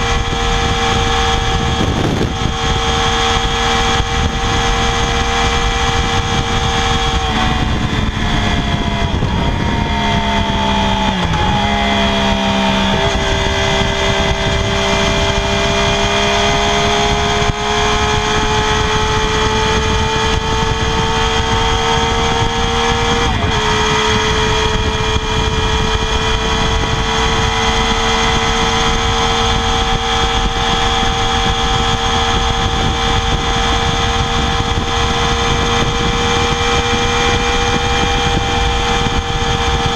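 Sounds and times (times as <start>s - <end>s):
motorcycle engine at high rpm: 0.0s - 39.9s.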